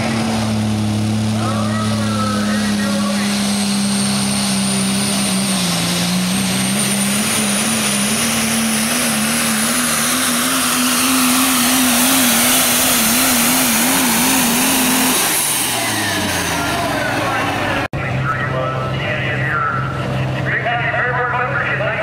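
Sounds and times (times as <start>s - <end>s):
diesel truck engine at full throttle: 0.0s - 22.0s.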